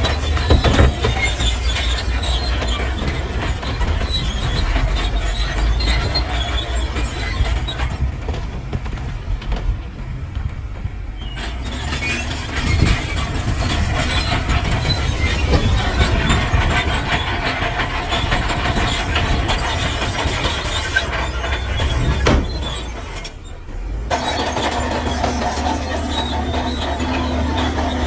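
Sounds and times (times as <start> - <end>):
diesel engine running: 0.0 - 28.0
metal clanks and squeals: 0.0 - 28.0.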